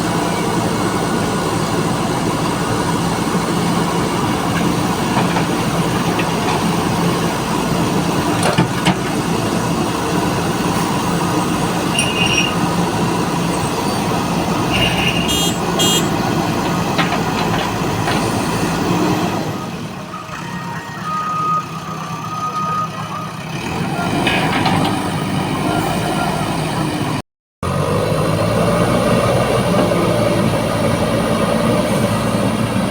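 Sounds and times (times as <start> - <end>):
heavy diesel engine under load: 0.0 - 32.9.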